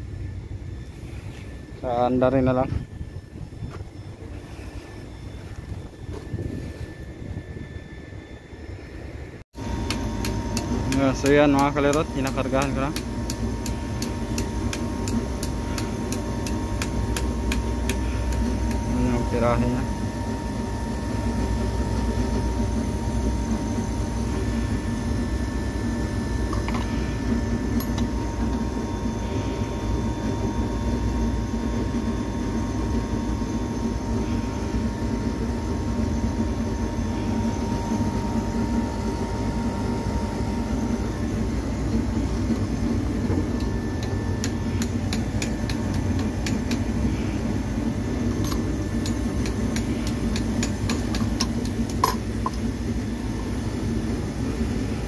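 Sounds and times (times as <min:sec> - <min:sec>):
air conditioner unit humming: 0:00.0 - 0:55.0.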